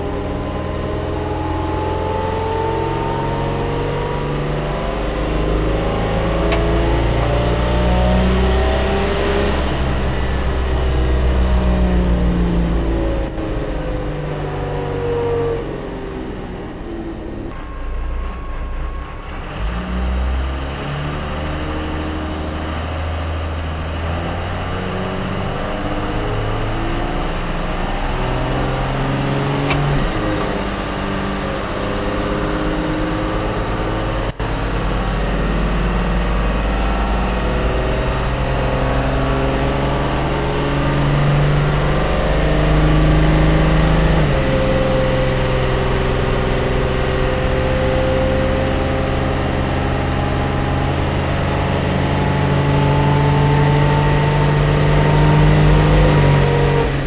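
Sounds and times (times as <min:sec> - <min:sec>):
diesel engine running on dyno: 0:00.0 - 0:57.0
thin whine rising in pitch: 0:00.0 - 0:57.0.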